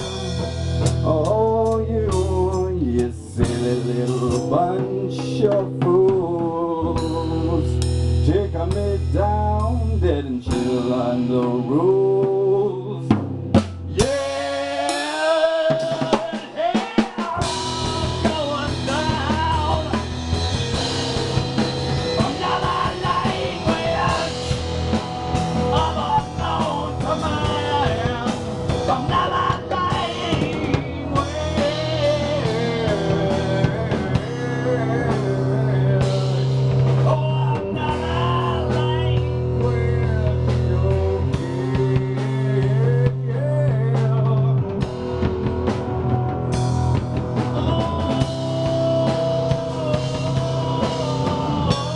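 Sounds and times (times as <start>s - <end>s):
man singing: 0.0s - 13.2s, 13.9s - 45.3s, 47.3s - 51.9s
drum kit playing: 0.0s - 51.9s
electric guitar: 0.0s - 51.9s.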